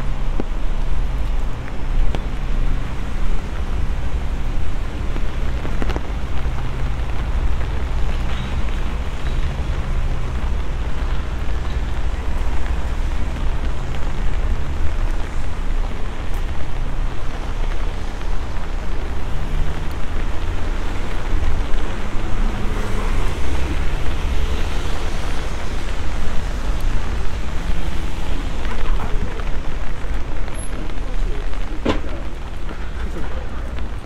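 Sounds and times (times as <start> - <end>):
heavy rain on pavement: 0.0 - 34.0.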